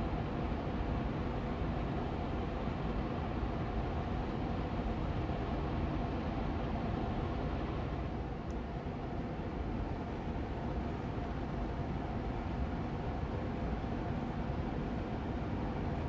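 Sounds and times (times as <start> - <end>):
air purifier fan running: 0.0 - 16.0.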